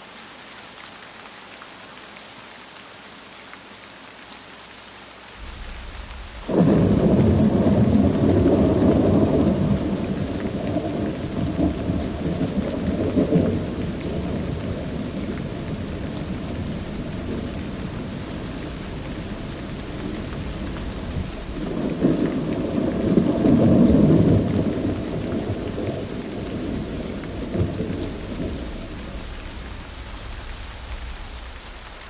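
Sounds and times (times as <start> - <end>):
steady rain: 0.0 - 32.0
thunder clap and rumble: 5.4 - 32.0.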